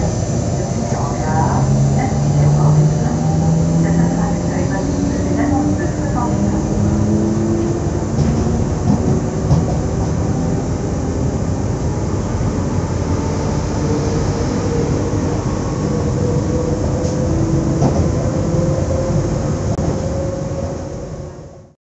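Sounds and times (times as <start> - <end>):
electric train humming and whirring: 0.0 - 21.7.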